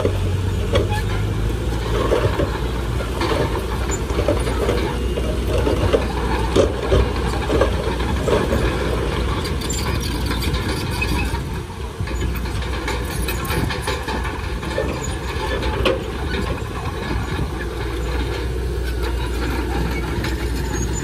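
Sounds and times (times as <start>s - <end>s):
diesel machinery engine drone: 0.0s - 21.0s
irregular clanks and knocks: 0.0s - 21.0s.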